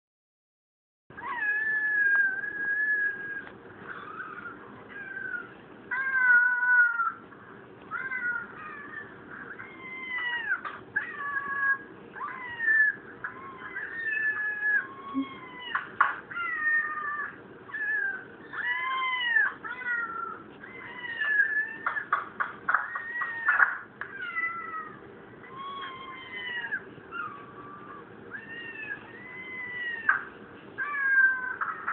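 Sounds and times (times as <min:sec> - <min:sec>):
cats meowing through laptop speakers: 0:01.2 - 0:07.2, 0:07.8 - 0:31.9.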